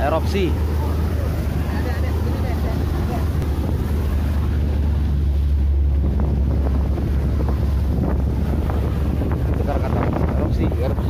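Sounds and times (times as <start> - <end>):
boat engine drone: 0.0 - 11.0
waves splashing against hull: 0.0 - 11.0
wind buffeting microphone: 0.0 - 11.0.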